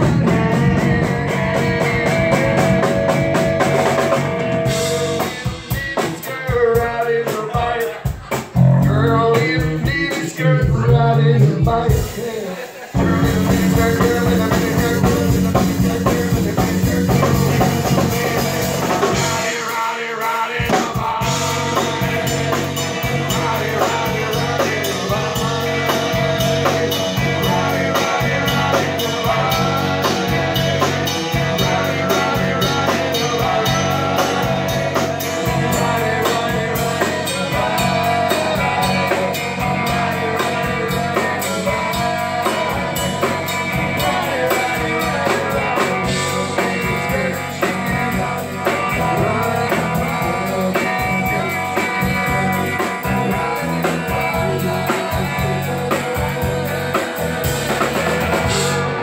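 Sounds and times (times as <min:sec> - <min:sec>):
electric bass: 0:00.0 - 0:07.2, 0:08.3 - 0:12.2, 0:12.9 - 0:19.6, 0:20.6 - 0:59.0
drum kit: 0:00.0 - 0:59.0
electric guitar: 0:00.0 - 0:59.0.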